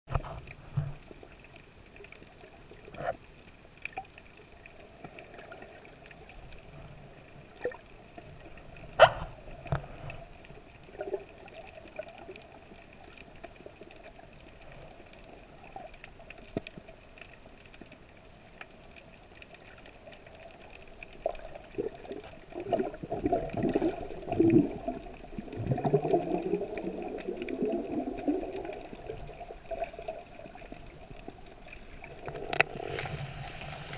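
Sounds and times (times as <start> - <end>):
faint underwater water sounds: 0.1 - 33.9
water gurgling against camera: 0.1 - 33.9.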